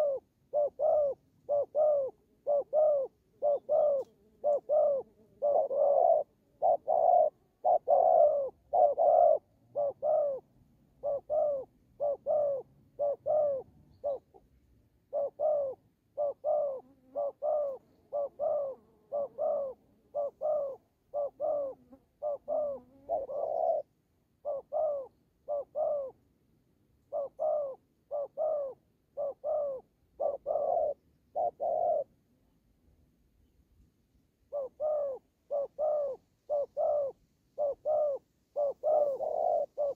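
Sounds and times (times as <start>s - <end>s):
doves cooing in clipped notes: 0.0s - 14.4s, 15.1s - 26.2s, 27.0s - 32.1s, 34.5s - 39.9s.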